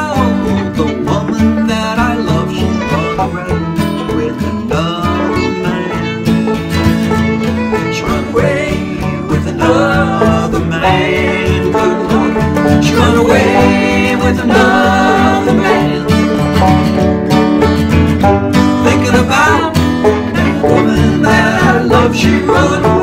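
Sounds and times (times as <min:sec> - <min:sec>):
bluegrass banjo and guitar music: 0:00.0 - 0:23.0.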